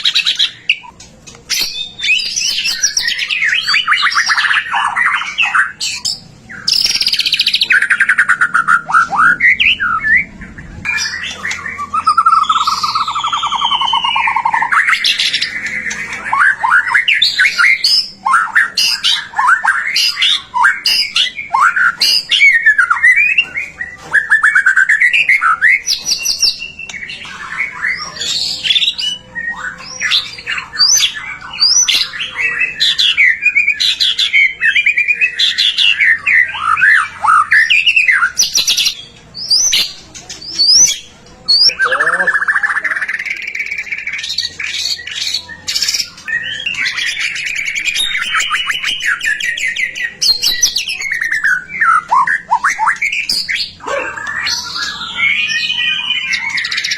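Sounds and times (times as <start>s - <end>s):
songbird whistles and trills: 0.0s - 56.9s.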